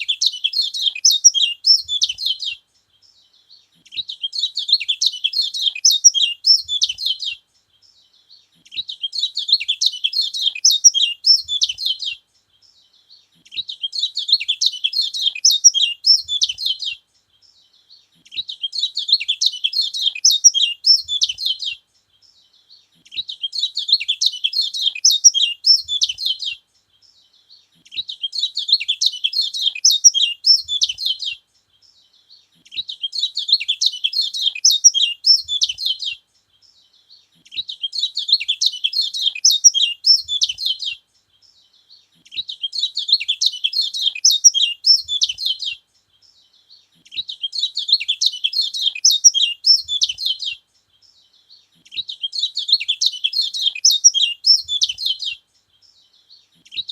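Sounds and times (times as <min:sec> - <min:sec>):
bird twittering song: 0:00.0 - 0:56.9.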